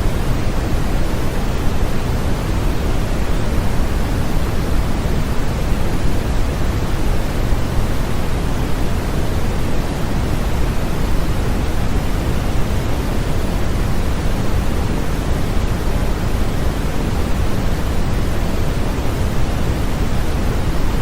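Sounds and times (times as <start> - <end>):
steady pink noise hiss: 0.0 - 21.0.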